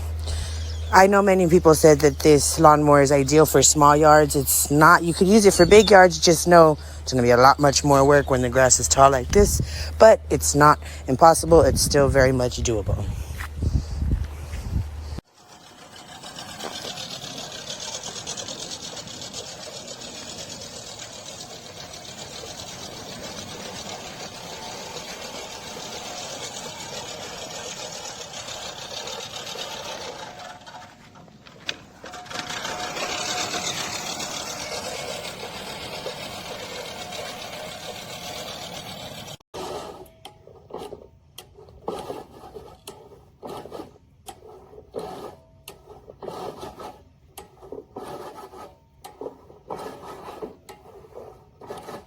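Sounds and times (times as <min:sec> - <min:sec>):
reel mower cutting grass: 0:00.0 - 0:12.9, 0:15.2 - 0:52.0.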